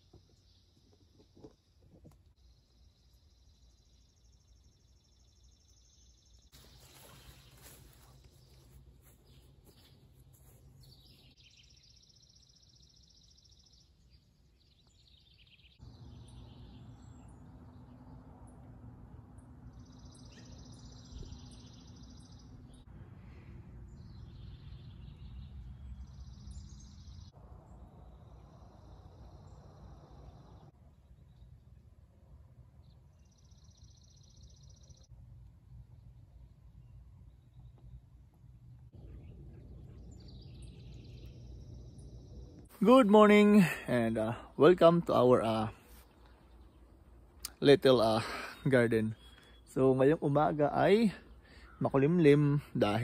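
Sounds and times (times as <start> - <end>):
birds singing trills: 0.0 - 18.7, 19.4 - 31.8, 38.9 - 53.0.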